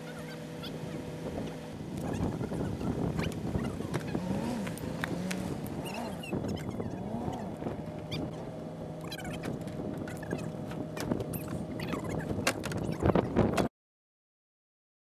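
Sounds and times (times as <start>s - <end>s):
pickup truck engine running: 0.0s - 13.6s.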